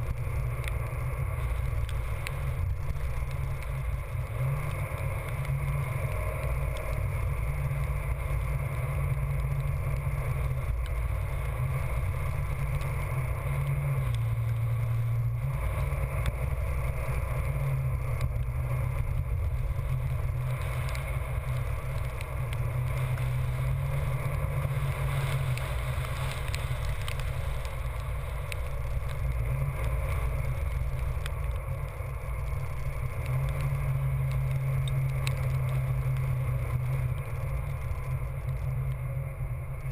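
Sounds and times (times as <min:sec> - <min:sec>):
vehicle driving rumble: 0:00.0 - 0:39.9.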